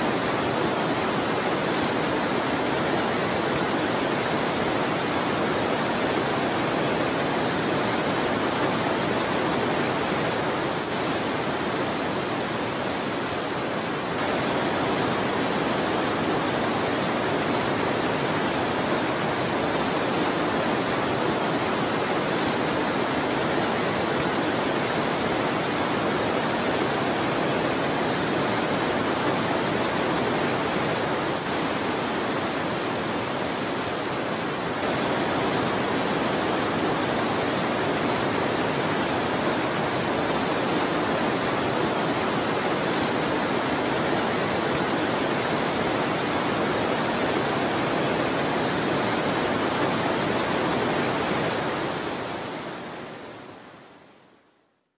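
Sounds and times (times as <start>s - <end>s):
waterfall rushing: 0.0s - 54.2s.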